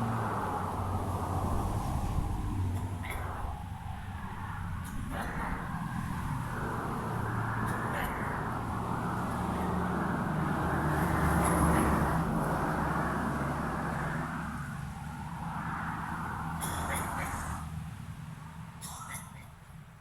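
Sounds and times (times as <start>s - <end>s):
vehicle passing by: 0.0s - 18.8s.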